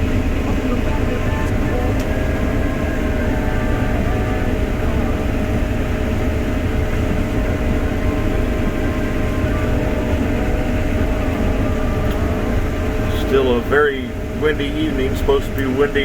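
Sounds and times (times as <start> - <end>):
combine harvester drone: 0.0 - 16.0.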